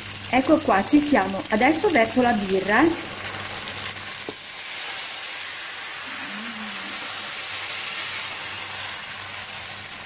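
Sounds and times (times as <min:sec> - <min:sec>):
beer sizzling in hot pot: 0:00.0 - 0:10.0.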